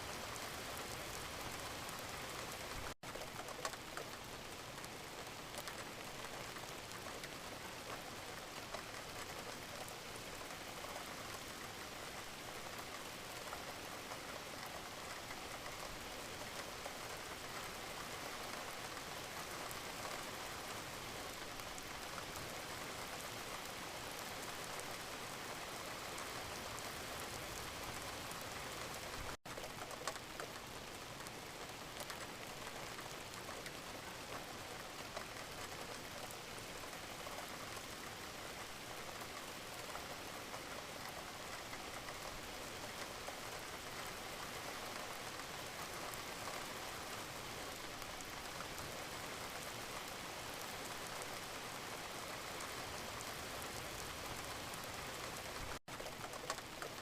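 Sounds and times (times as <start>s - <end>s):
gentle rain patter: 0.0s - 57.0s.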